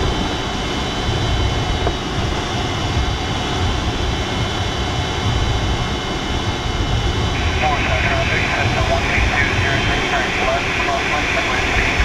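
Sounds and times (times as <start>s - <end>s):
airflow rushing over glider: 0.0s - 12.0s.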